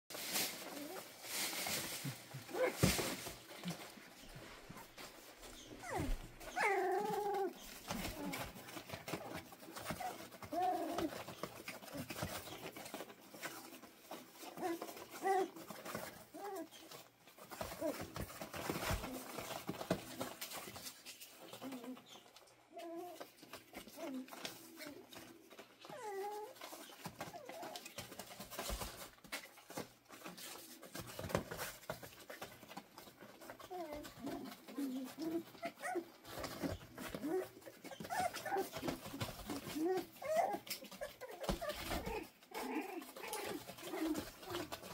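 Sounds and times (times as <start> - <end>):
puppies moving on plastic tarp: 0.1 - 44.9
small paws pattering: 0.1 - 44.9
puppies whining and yipping: 2.5 - 44.9.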